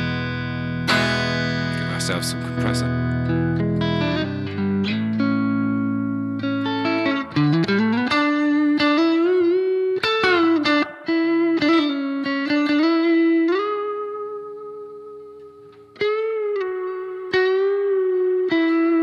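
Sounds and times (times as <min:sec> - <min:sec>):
electric guitar lead line: 0:00.0 - 0:19.0.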